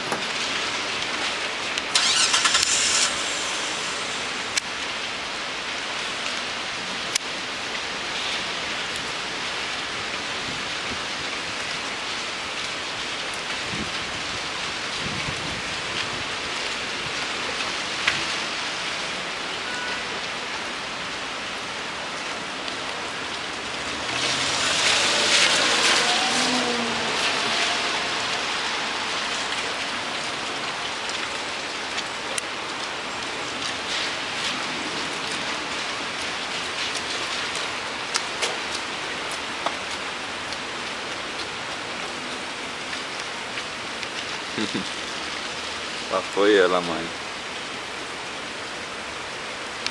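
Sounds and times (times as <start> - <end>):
hiss of heavy wet snow falling: 0.0 - 49.9.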